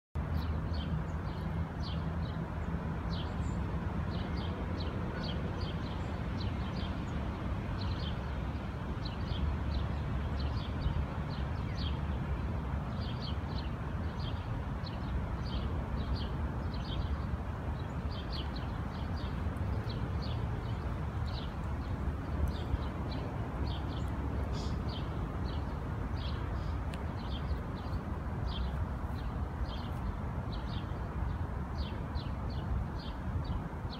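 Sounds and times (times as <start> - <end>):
distant city traffic rumble: 0.2 - 33.9.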